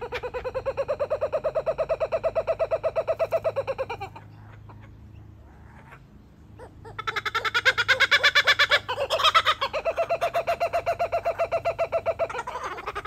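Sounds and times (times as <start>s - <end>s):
kookaburras laughing: 0.0s - 13.0s.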